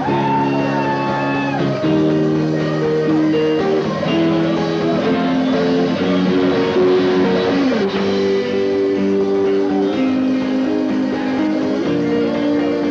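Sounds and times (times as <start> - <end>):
drums and cymbals: 0.0 - 12.9
electric guitar chords: 0.0 - 12.9.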